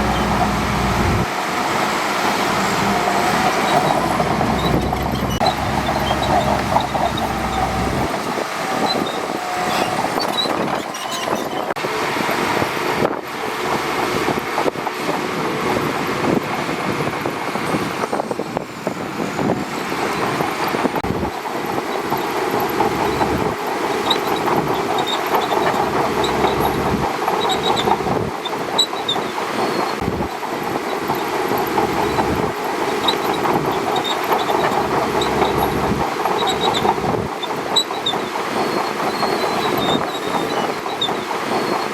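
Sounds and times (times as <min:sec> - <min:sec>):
bulldozer diesel engine: 0:00.0 - 0:41.9
steel tracks clattering: 0:00.0 - 0:41.9.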